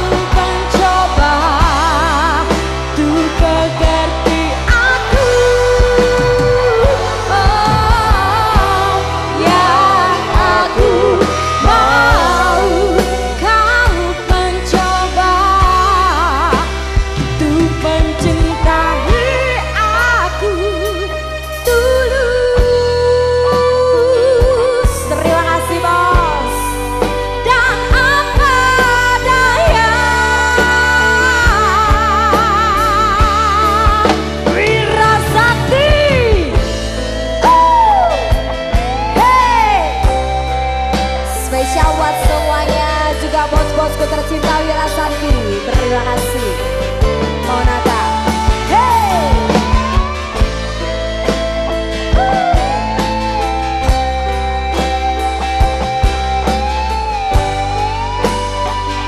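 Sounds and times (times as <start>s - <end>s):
live band playing: 0.0s - 59.0s
steady bass: 0.0s - 59.0s
vibrato lead melody: 0.0s - 59.0s.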